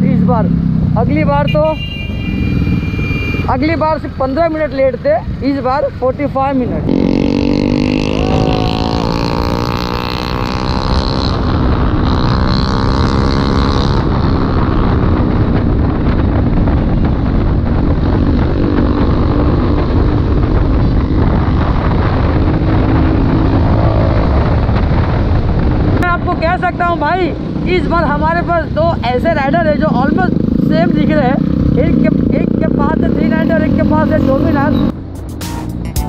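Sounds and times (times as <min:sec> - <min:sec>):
wind rushing over microphone: 0:00.0 - 0:35.9
motorcycle engine running: 0:06.8 - 0:36.0.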